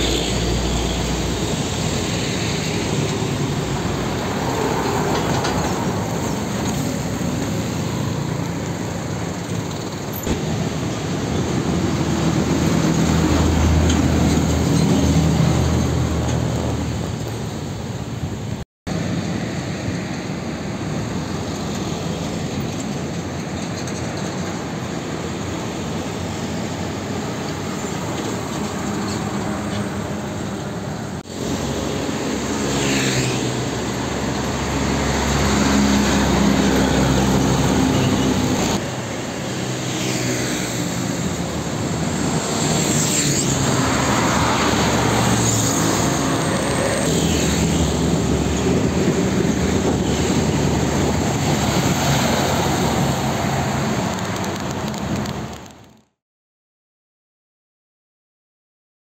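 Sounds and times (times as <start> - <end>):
motorbikes passing: 0.0 - 18.0, 24.9 - 55.6
cars passing: 0.0 - 23.4, 24.7 - 55.6
diesel trucks passing: 0.0 - 56.0.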